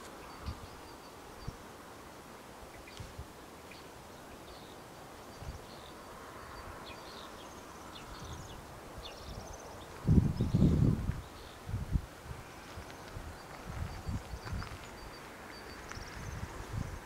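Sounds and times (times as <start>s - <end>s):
small birds chirping: 0.0s - 1.7s, 2.6s - 11.8s, 12.6s - 17.0s
quiet rural background noise: 0.0s - 17.0s.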